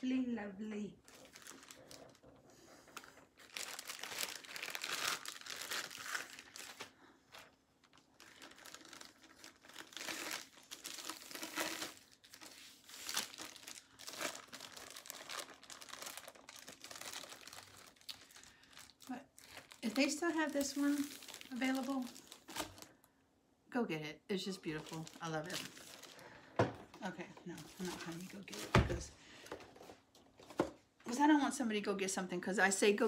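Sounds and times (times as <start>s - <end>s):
plastic sleeve crinkling: 1.0s - 23.1s, 24.4s - 30.7s.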